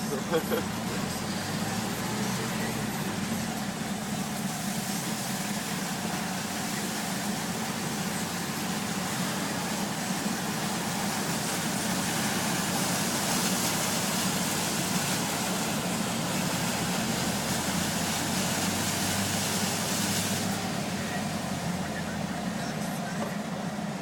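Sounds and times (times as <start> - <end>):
truck diesel engine running: 0.0 - 24.0
water rushing hiss: 0.0 - 24.0.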